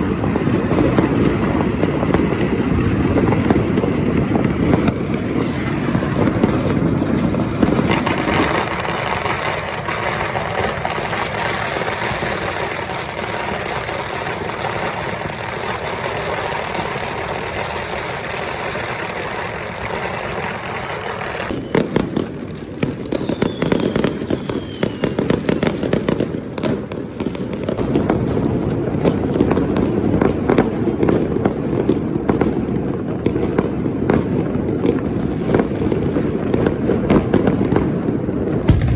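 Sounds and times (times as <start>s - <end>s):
firecrackers crackling: 0.0s - 38.9s
fireworks bangs and cracks: 0.0s - 38.9s.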